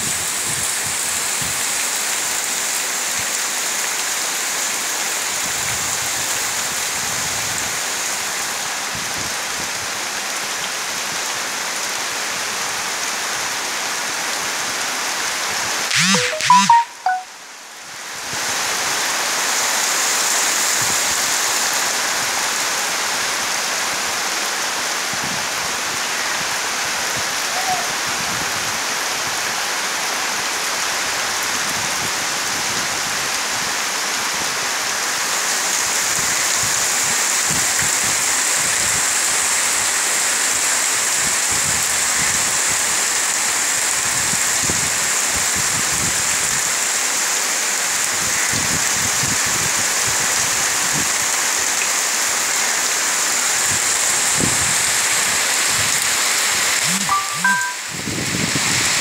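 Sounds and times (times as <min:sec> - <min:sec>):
heavy rain on trees and leaves: 0:00.0 - 0:15.9, 0:17.3 - 0:59.0.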